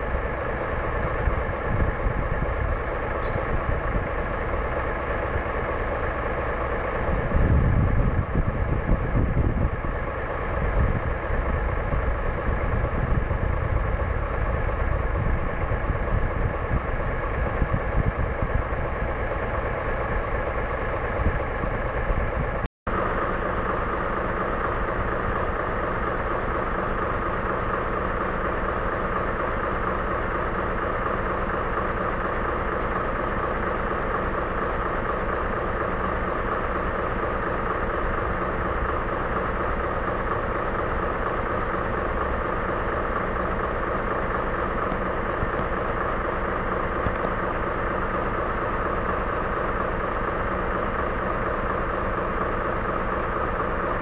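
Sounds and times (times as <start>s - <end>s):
railway engine idling hum: 0.0s - 54.0s.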